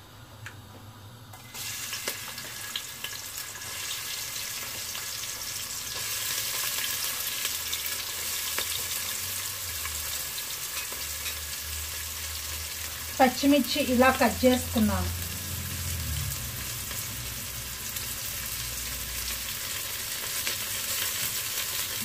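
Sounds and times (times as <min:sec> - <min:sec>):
onions sizzling in hot oil: 0:01.3 - 0:22.0.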